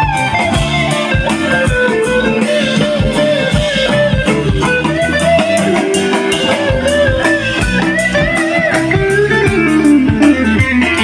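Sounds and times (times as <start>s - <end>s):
bass guitar: 0.0s - 11.0s
drums: 0.0s - 11.0s
lead guitar with bent notes: 0.0s - 11.0s.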